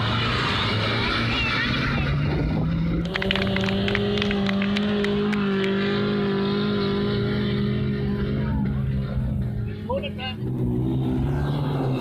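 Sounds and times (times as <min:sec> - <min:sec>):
engine running at high revs: 0:00.0 - 0:12.0.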